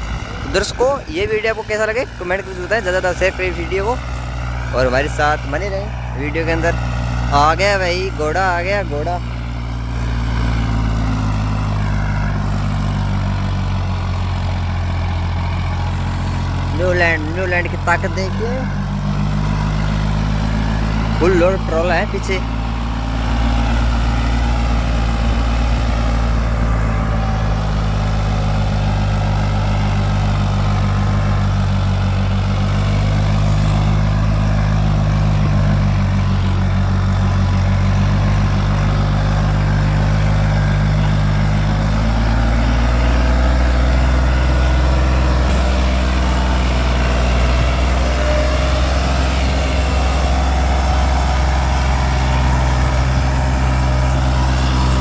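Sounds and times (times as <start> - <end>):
tractor diesel engine running hard: 0.0 - 55.0.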